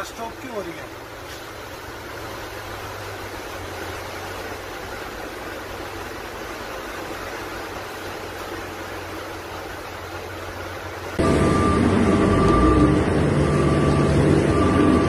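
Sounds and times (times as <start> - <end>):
low engine hum: 0.0 - 15.0
vehicle driving through floodwater: 0.0 - 15.0.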